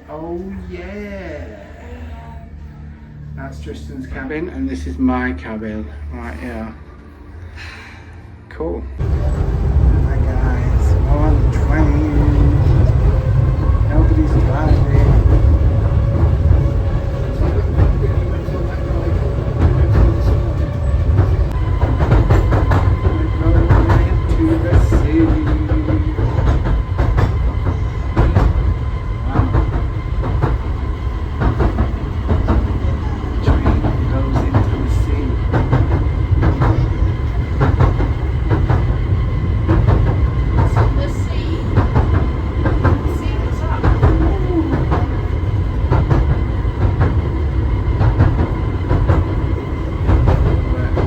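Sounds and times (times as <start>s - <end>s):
train rumble: 0.0s - 51.0s
wheels clacking on rails: 9.0s - 51.0s.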